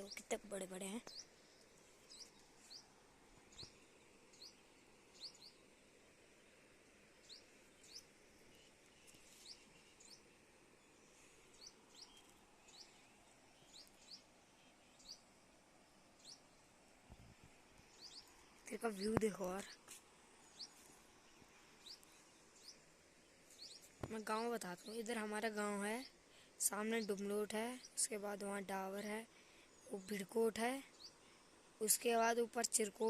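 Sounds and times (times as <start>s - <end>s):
quiet rural background: 0.0s - 33.0s.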